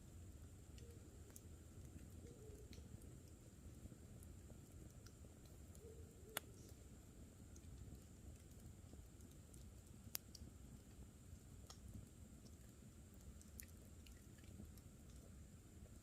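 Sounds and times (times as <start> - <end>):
campfire crackling: 0.0 - 16.0
low steady rumble: 0.0 - 16.0.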